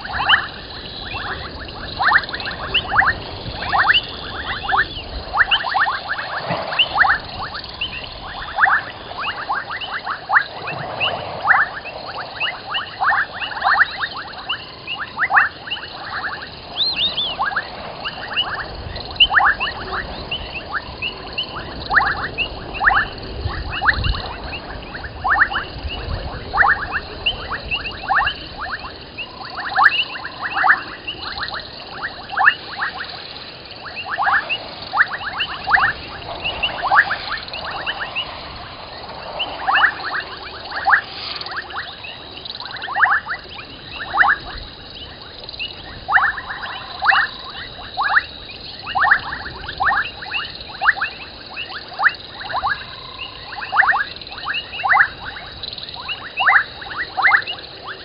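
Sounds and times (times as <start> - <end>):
faint higher chirps: 0.0 - 58.0
frogs chirping: 0.0 - 58.0.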